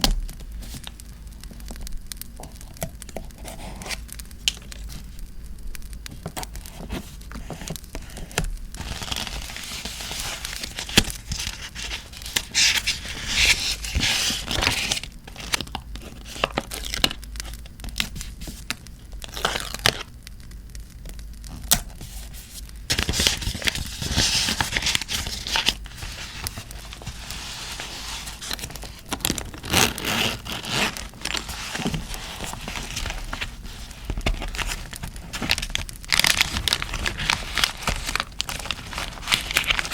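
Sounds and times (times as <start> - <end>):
paper tearing and crinkling: 3.4 - 5.0, 6.6 - 20.1, 21.5 - 39.9.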